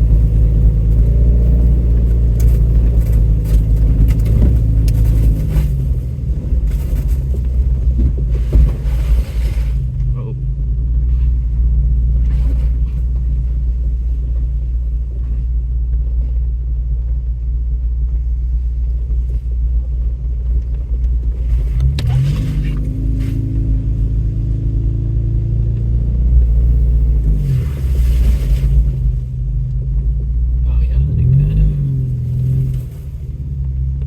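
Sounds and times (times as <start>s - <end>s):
vehicle engine rumbling and revving: 0.0s - 34.0s.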